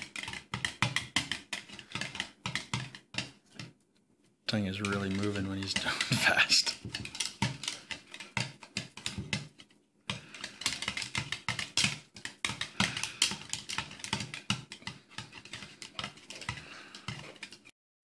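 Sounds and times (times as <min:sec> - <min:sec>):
whisk clattering in plastic bowl: 0:00.0 - 0:03.8, 0:04.5 - 0:17.7.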